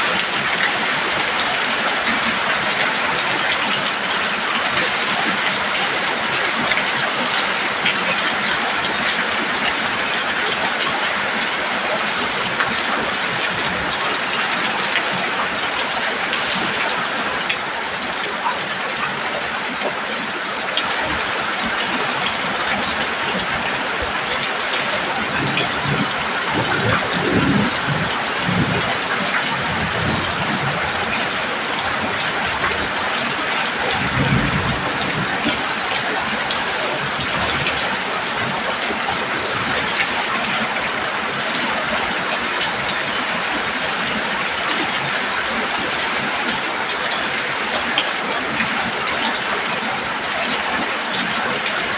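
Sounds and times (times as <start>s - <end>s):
heavy rain drumming on a roof: 0.0s - 51.9s.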